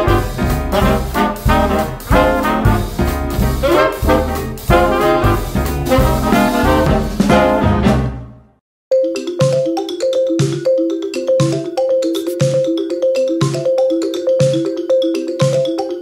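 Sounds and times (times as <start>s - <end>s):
upbeat music with steady beat: 0.0s - 7.5s, 9.2s - 16.0s.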